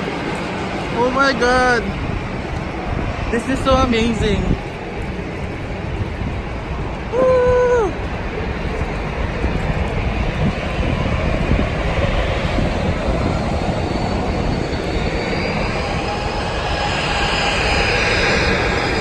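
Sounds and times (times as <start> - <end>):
jet aircraft noise: 0.0 - 19.0.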